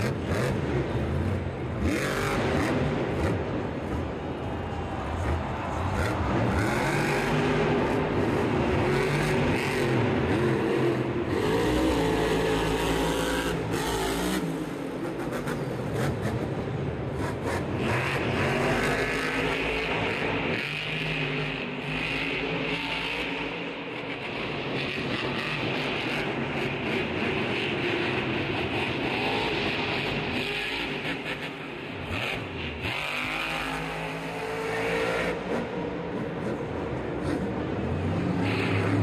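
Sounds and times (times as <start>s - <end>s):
truck engine revving hard: 0.0s - 4.1s, 5.0s - 39.0s.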